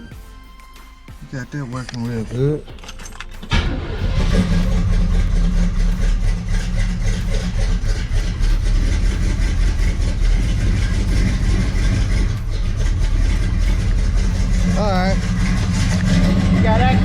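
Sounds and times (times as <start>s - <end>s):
car engine idling: 1.2s - 17.0s.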